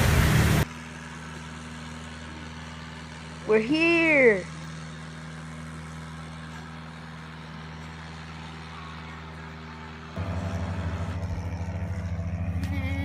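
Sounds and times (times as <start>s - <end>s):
engine idling low hum: 0.0s - 13.0s
engine with fast pulsing beat: 0.0s - 13.0s.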